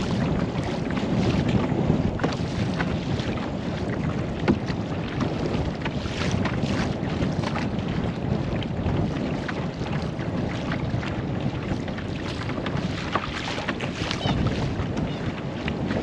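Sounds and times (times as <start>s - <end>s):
water lapping and dripping: 0.0s - 16.0s
wind rumble on microphone: 0.0s - 16.0s.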